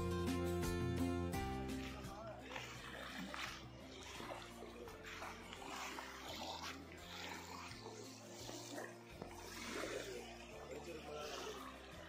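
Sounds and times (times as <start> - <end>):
soft background music: 0.0 - 12.0
water lapping against bank: 1.3 - 12.0.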